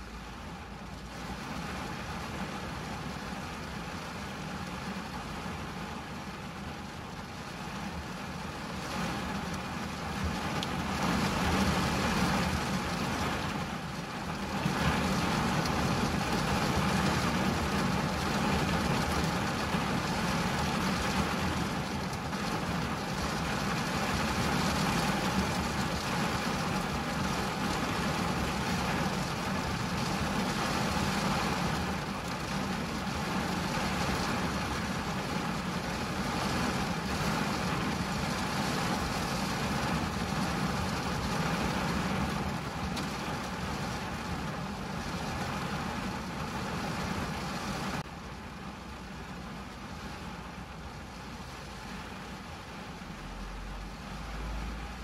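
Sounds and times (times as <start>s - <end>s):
low steady rumble: 0.0s - 55.0s
rain on car windshield and roof: 0.0s - 55.0s.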